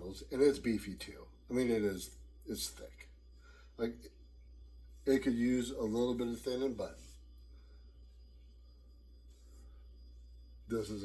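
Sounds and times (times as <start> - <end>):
faint hiss: 0.0 - 11.0
steady low hum: 0.0 - 11.0.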